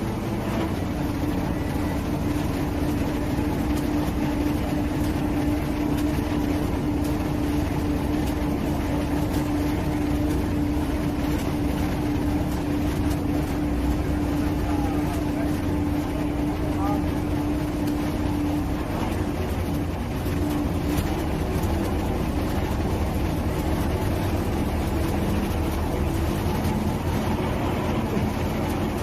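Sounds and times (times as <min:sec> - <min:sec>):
diesel crane engine humming: 0:00.0 - 0:29.0.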